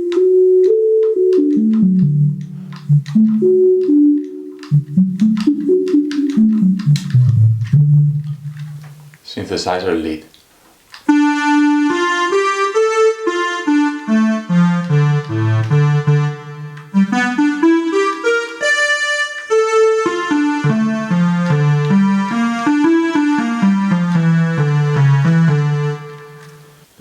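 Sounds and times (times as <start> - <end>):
synthesizer wind instrument melody: 0.0 - 9.0, 11.1 - 26.7.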